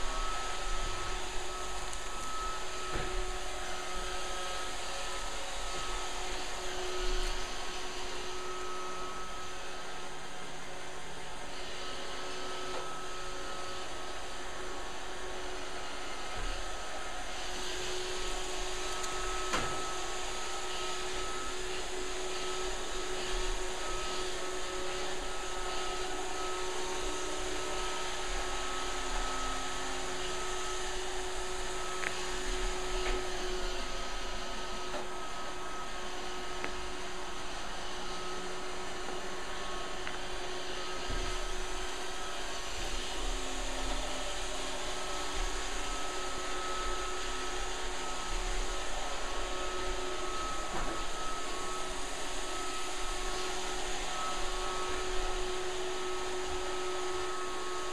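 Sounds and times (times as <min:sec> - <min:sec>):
robot vacuum motor whirring: 0:00.0 - 0:57.9.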